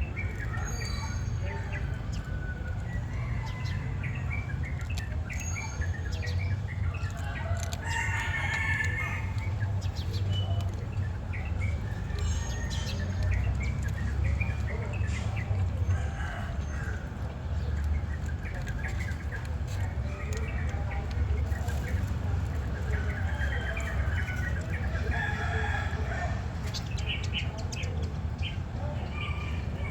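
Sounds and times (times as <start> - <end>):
birds chirping: 0.0 - 29.9.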